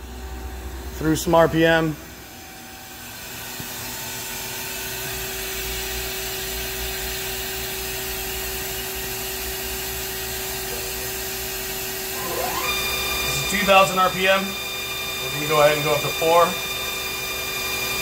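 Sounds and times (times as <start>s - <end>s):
machine spindle whine and whir: 2.1s - 18.0s.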